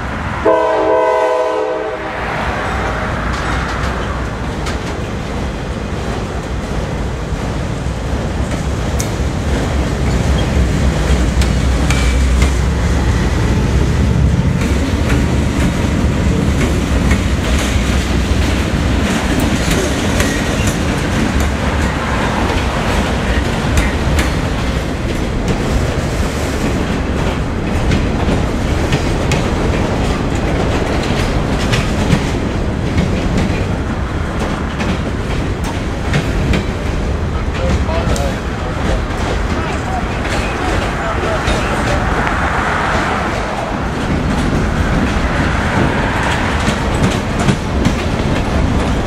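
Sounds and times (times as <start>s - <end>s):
freight train wheels rumbling: 0.0s - 49.0s
wheels clacking over rail joints: 2.7s - 49.0s.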